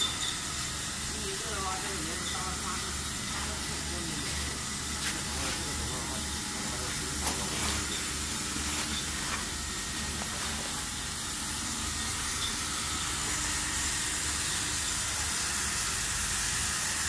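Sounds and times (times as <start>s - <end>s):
machine hissing and humming: 0.0s - 17.0s.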